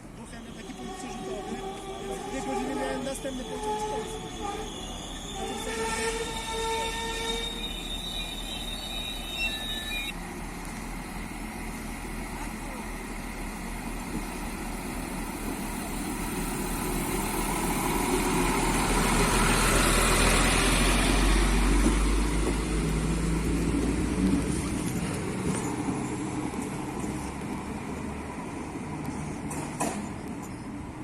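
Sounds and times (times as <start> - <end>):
diesel train engine passing: 0.0 - 31.0.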